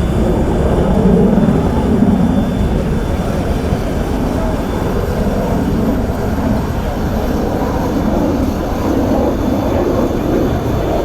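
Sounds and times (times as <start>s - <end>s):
jet fighter engines rumbling: 0.0s - 11.0s.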